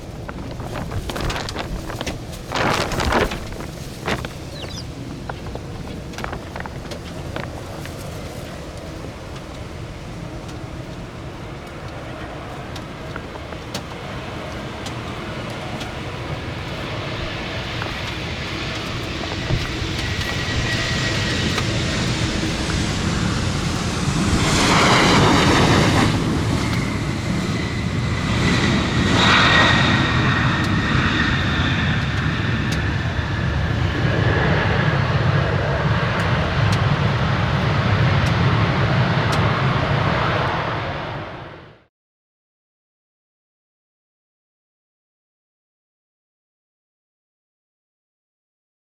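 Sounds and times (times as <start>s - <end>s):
high engine whine: 0.0s - 41.9s
jet engines roaring: 0.0s - 41.9s.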